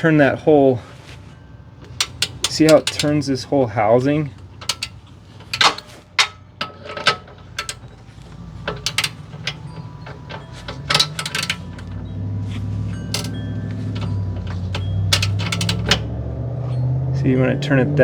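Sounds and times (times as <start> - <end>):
wrench clinking on metal: 1.8 - 16.9.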